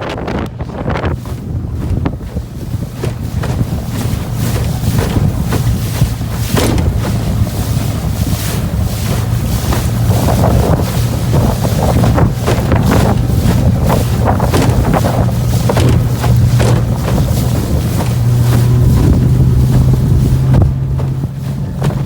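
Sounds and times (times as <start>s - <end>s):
boat engine running: 0.0s - 22.0s
water splashing: 0.0s - 22.0s
wind buffeting microphone: 0.0s - 22.0s.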